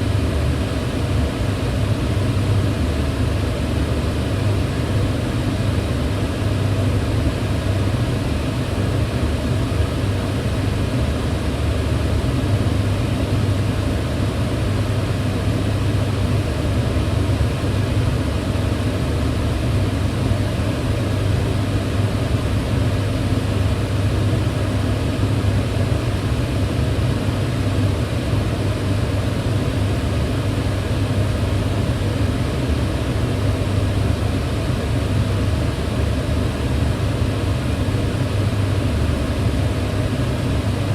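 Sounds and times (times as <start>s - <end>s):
range hood fan running: 0.0s - 40.9s.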